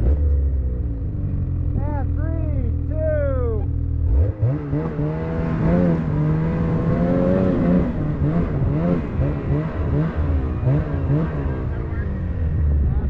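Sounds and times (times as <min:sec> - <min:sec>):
snowmobile engine revving: 0:01.5 - 0:13.0.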